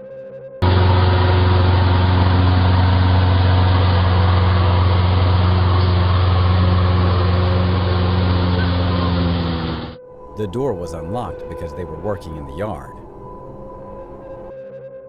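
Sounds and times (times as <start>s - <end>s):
motor engine running steadily: 0.6s - 14.5s.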